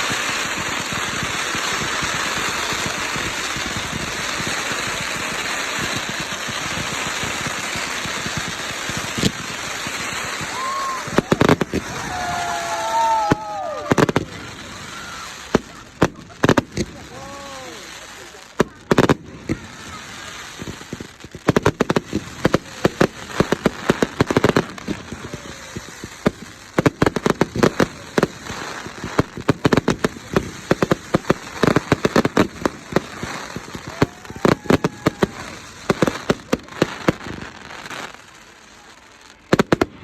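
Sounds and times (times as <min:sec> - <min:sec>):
fireworks crackling bangs: 0:00.0 - 0:40.0.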